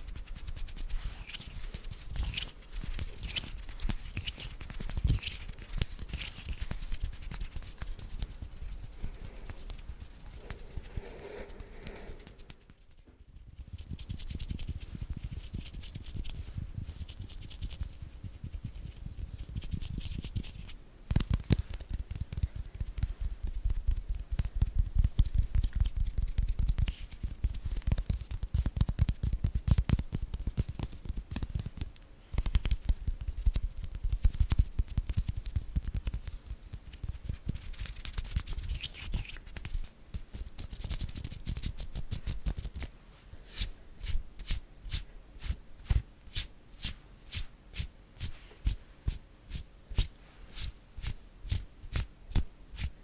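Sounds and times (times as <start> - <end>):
hands rubbing and tapping: 0.0 - 53.0.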